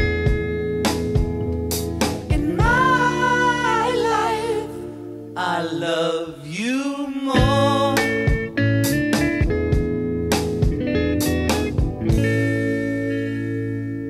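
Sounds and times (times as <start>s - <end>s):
plucked guitar notes: 0.0s - 6.1s, 7.4s - 14.0s
instrumental backing: 0.0s - 6.6s, 7.4s - 14.0s.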